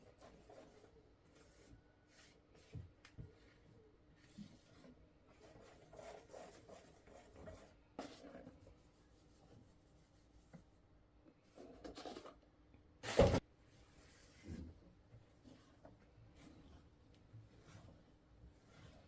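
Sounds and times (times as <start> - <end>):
quiet rubbing and handling: 0.0 - 10.8, 13.6 - 19.0.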